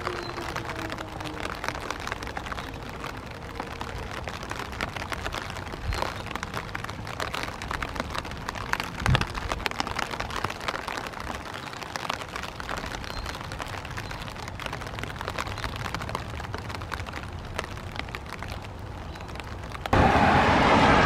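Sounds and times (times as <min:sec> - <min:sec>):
close raindrops ticking: 0:00.0 - 0:20.0
steady rain: 0:00.0 - 0:21.0.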